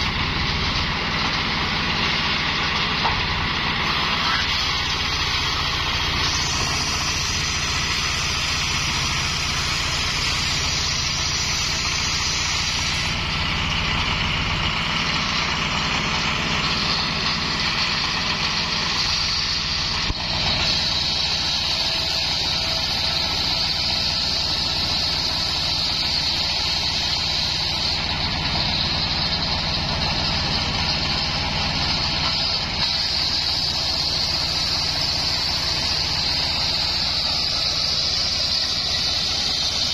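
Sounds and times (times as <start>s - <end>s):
stationary engine drone: 0.0s - 39.9s
saw blade cutting wood hiss: 3.8s - 39.9s.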